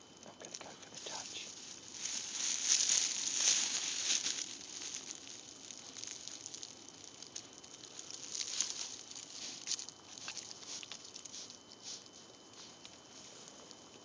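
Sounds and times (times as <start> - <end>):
crackling in dry leaves: 0.0 - 14.0.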